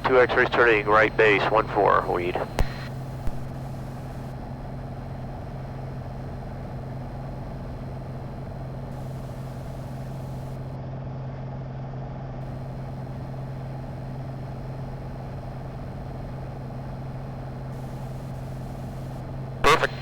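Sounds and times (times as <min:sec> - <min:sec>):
propeller plane engine humming: 0:00.0 - 0:10.8, 0:12.4 - 0:20.0.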